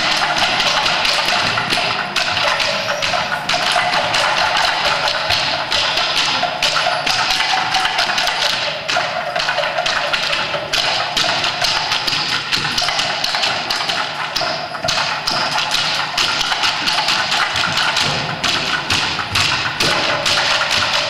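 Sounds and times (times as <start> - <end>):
bamboo poles thumping on wooden floor: 0.0 - 21.0.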